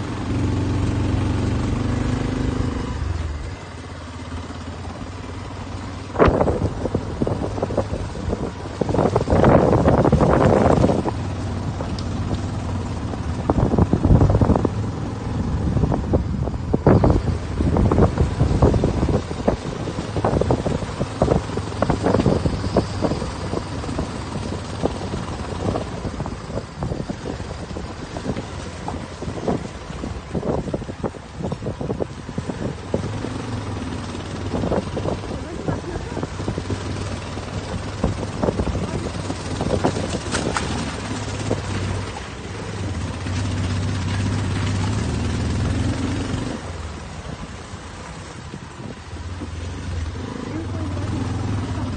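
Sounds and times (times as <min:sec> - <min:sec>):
motor scooter running: 0:00.0 - 0:51.9
wind buffeting microphone: 0:04.7 - 0:51.9.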